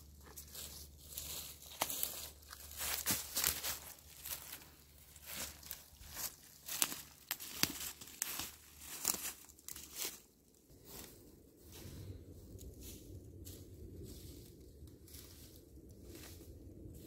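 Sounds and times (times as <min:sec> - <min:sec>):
steady low rumble: 0:00.0 - 0:09.0, 0:10.6 - 0:17.0
footsteps through dry leaves: 0:00.0 - 0:17.0.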